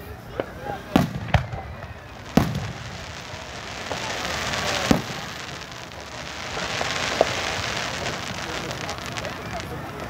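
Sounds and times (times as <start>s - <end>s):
crackling hiss of firework sparks: 0.3s - 10.0s
firework bangs: 0.4s - 10.0s.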